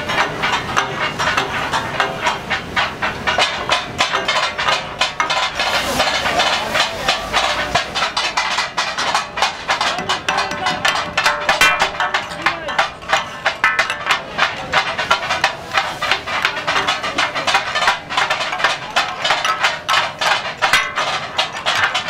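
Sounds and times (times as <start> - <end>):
metal spatulas clanking on griddles: 0.0 - 22.0
sizzling and steam hiss: 0.0 - 22.0.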